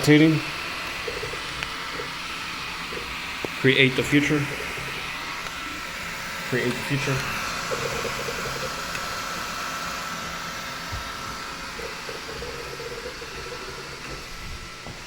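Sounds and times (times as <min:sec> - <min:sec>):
cooling fans whirring: 0:00.0 - 0:15.0
stepper motor whine: 0:00.0 - 0:15.0.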